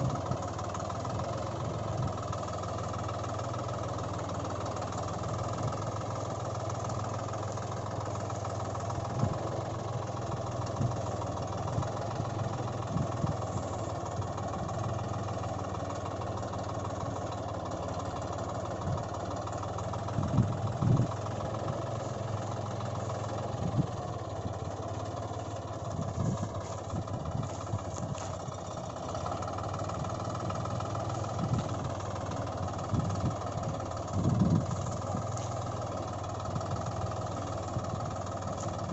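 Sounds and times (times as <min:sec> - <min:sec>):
vehicle engine idling: 0:00.0 - 0:38.9.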